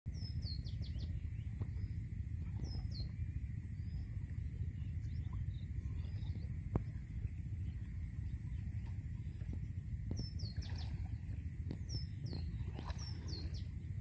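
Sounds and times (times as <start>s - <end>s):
constant high hiss: 0.1s - 14.0s
small birds chirping: 0.1s - 14.0s
steady low rumble: 0.1s - 14.0s.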